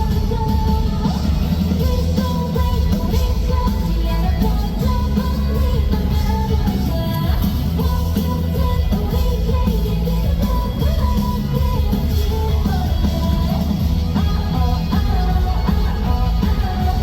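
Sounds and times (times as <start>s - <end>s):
live rock band playing: 0.0s - 17.0s
woman singing lead vocal: 0.0s - 17.0s.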